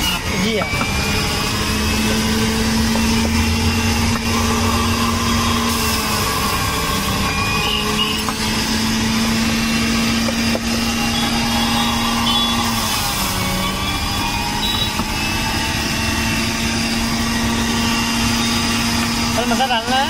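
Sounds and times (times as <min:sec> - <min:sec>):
juice extractor motor humming: 0:00.0 - 0:20.0.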